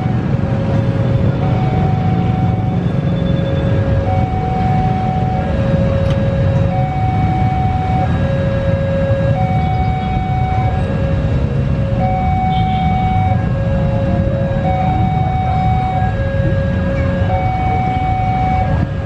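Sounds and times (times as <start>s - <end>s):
ambulance siren two-tone: 0.0s - 19.0s
low rumble of vehicle engines: 0.0s - 19.0s.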